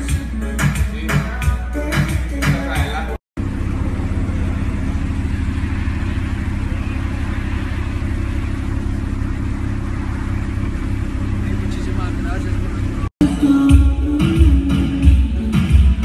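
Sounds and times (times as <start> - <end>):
car engine idling: 2.0 - 15.8.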